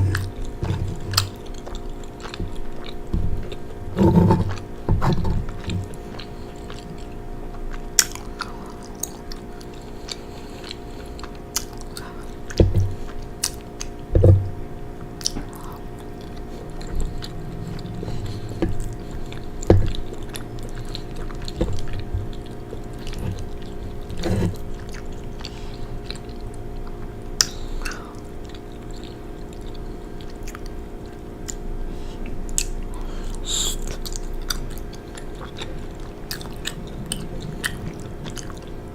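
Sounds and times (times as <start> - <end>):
mouth chewing pasta: 0.0 - 38.9
steady low hum: 0.0 - 38.9.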